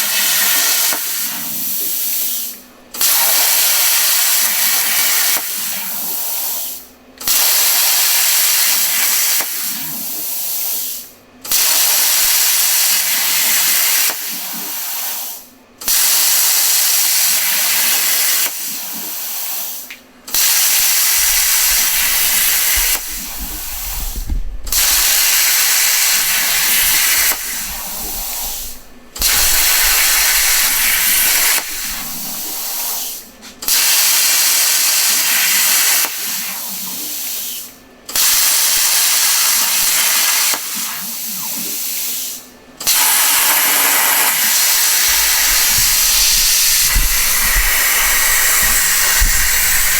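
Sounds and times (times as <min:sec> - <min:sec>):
plasma cutter hissing: 0:00.0 - 0:49.9.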